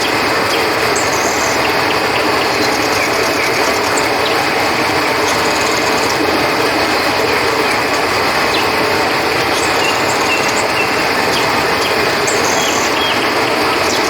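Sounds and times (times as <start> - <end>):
crickets chirping: 0.0 - 14.0
river flowing: 0.0 - 14.0.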